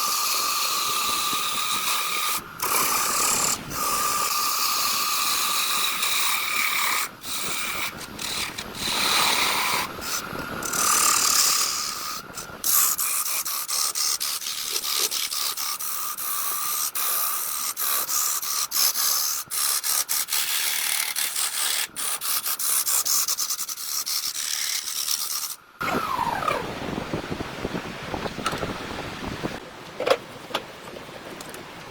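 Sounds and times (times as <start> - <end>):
woodworking tools cutting wood: 0.0 - 26.7.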